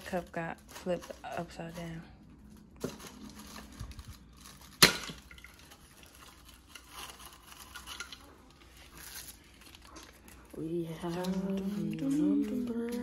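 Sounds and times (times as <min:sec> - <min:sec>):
tissue paper crackling and tearing: 0:00.0 - 0:04.9, 0:05.5 - 0:13.0.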